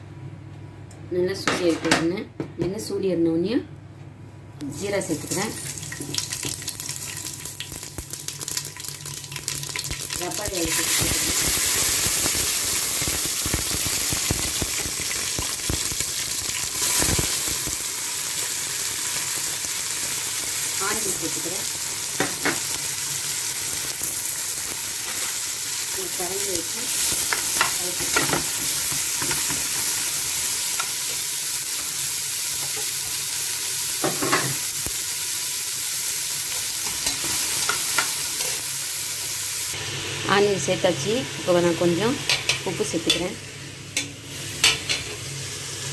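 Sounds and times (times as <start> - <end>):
onions sizzling in oil: 4.6 - 45.9.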